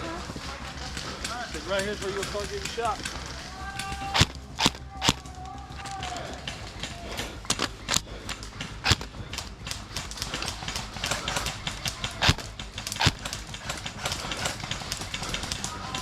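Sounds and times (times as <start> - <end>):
airsoft gunshots: 0.0 - 16.0
small clicks: 0.0 - 16.0.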